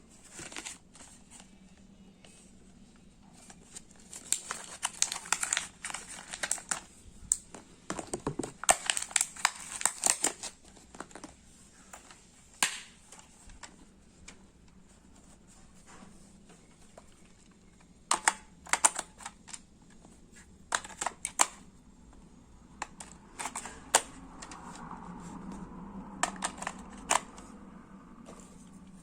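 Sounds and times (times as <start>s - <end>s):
faint soft hum: 0.0s - 29.0s.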